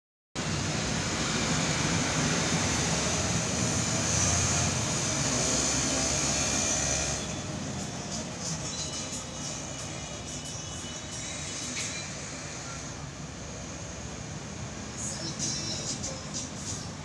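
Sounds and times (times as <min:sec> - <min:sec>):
bus engine rumbling: 0:00.4 - 0:17.0
street traffic: 0:00.4 - 0:17.0.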